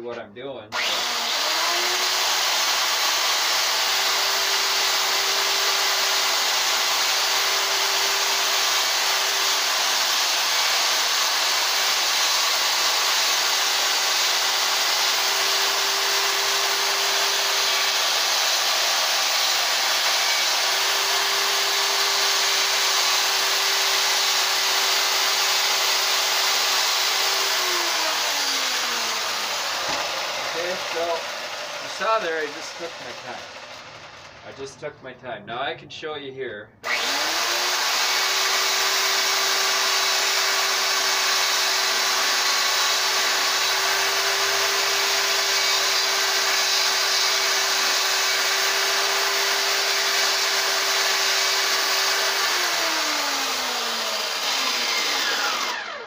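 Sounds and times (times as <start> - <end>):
electric chainsaw cutting wood: 0.7 - 34.8, 36.8 - 56.0.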